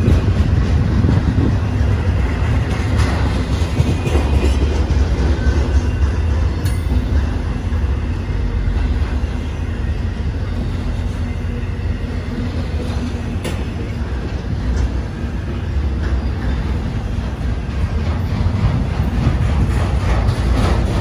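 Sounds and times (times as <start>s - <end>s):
freight train wheels rumbling on rail: 0.0s - 21.0s
sharp clack of train wheels: 0.0s - 21.0s.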